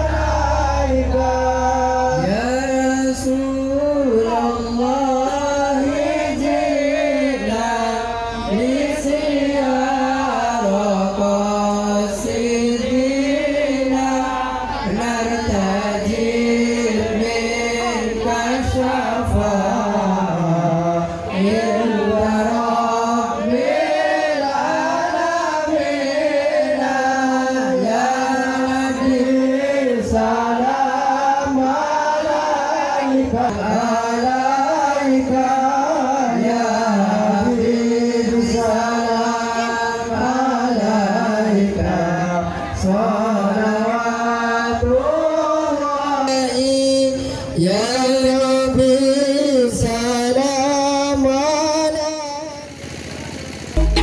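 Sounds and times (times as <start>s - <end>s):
people singing slow song amplified: 0.0s - 52.8s.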